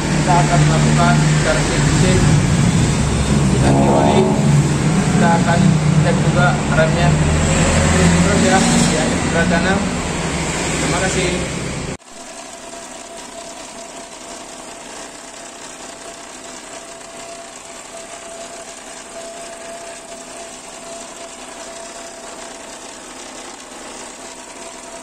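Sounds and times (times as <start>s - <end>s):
radiator cooling fan motor: 0.0s - 25.0s.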